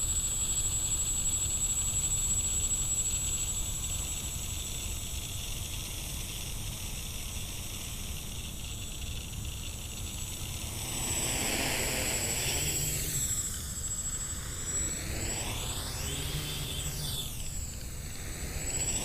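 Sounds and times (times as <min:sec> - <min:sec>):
quadcopter propellers whirring: 0:00.0 - 0:19.0.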